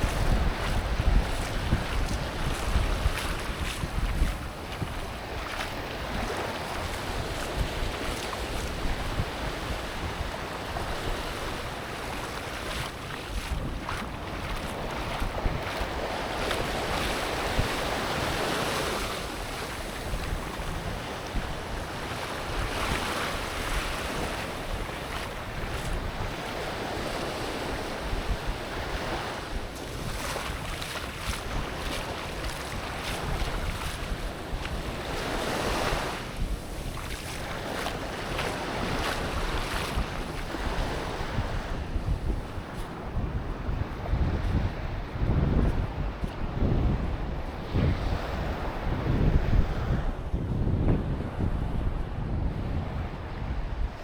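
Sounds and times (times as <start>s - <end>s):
ocean surf washing onto beach: 0.0s - 50.3s
wind rumbling on microphone: 0.0s - 54.0s.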